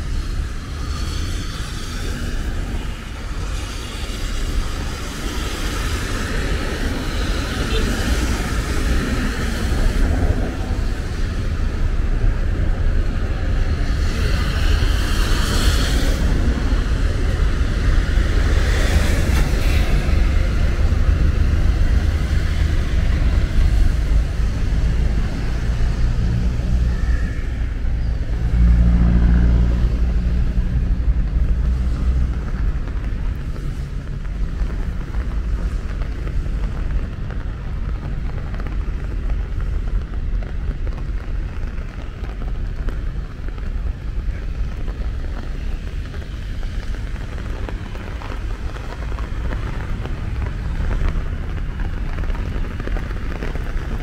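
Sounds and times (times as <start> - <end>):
traffic on wet street: 0.0 - 54.0
wind rumbling on microphone: 0.0 - 54.0.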